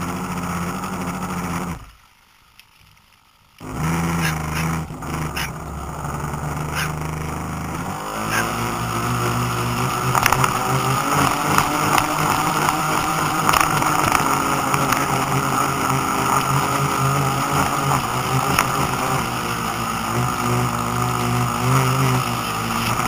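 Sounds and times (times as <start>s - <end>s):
boat motor running: 0.0s - 2.1s, 3.6s - 23.0s
water noise: 0.0s - 23.0s.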